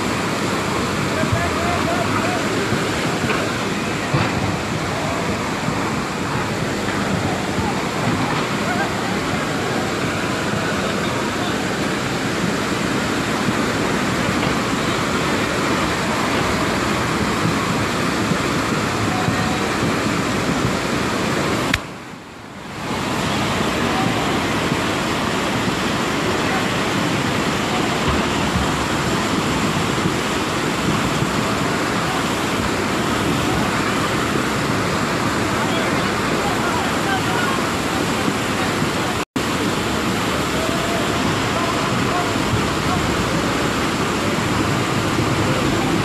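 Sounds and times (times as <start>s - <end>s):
floodwater rushing in river: 0.0s - 46.0s.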